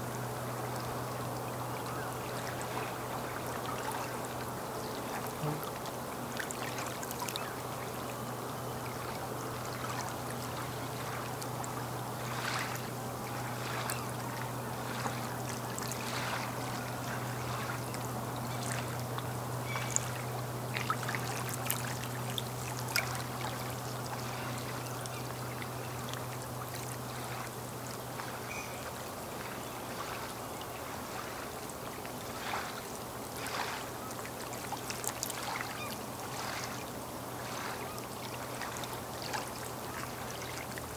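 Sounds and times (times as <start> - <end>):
small waves lapping: 0.0 - 40.9
steady low hum: 0.0 - 40.9
little splashes: 0.4 - 8.2, 8.8 - 40.9.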